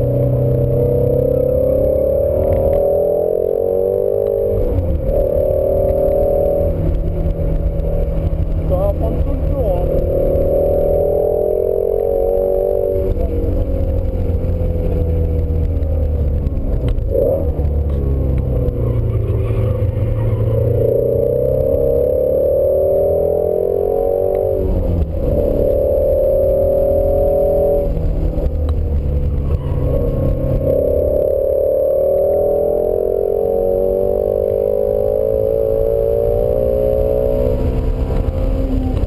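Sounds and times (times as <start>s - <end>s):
car engine revving in cabin: 0.0s - 39.0s.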